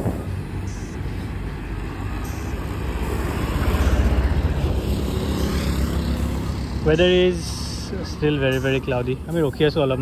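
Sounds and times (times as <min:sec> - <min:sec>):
car road noise rumble: 0:00.0 - 0:10.0.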